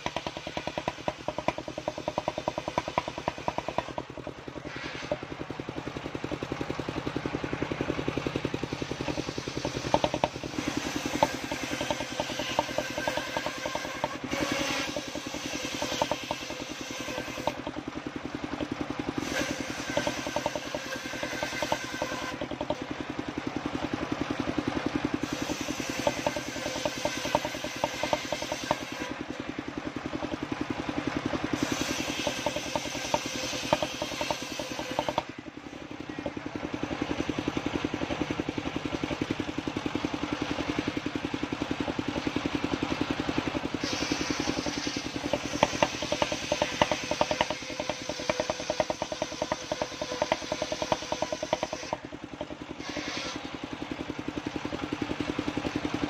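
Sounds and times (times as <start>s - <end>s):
circular saw cutting wood: 0.0s - 6.4s, 7.6s - 39.4s, 42.9s - 54.1s
sawmill engine hum: 0.0s - 56.0s.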